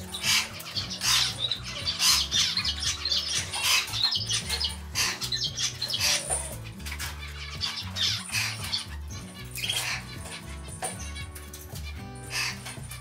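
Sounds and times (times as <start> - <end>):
background music with bass: 0.0 - 13.0
finches chirping: 0.0 - 13.0.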